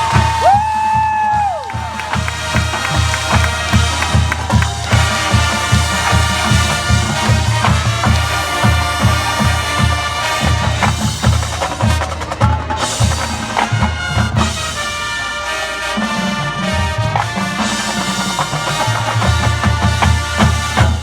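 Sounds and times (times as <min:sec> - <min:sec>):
marching band brass: 0:00.0 - 0:21.0.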